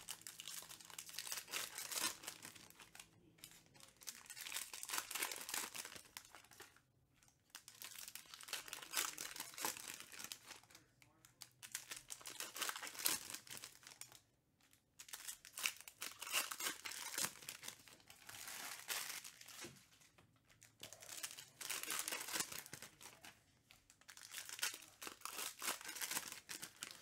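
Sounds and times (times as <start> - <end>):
plastic wrappers crinkling and tearing: 0.0 - 27.0.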